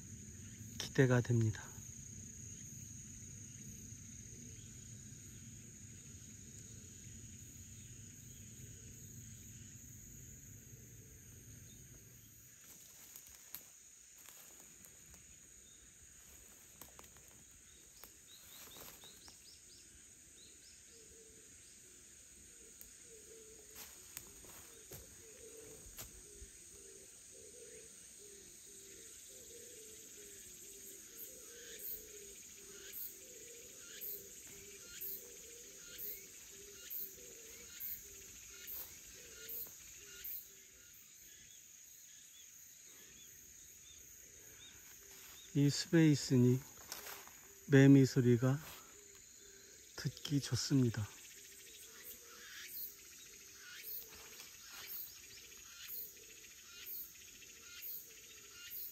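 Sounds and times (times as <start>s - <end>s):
cicadas high drone: 0.0s - 58.9s
loud pulsing cicada call: 0.0s - 58.9s.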